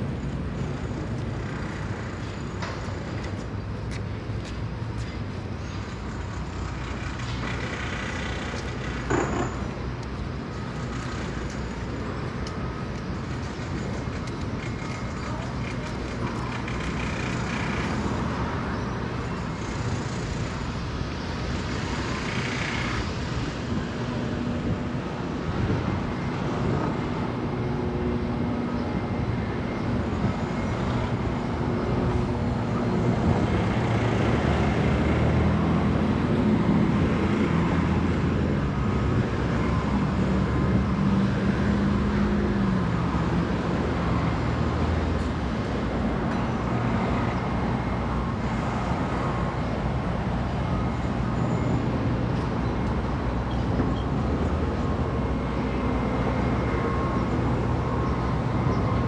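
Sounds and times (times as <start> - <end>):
passing cars: 0.0 - 59.0.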